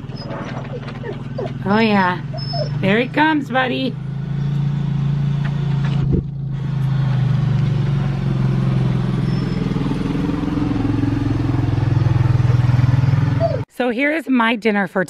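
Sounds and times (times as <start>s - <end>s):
atv engine running: 0.0s - 13.6s.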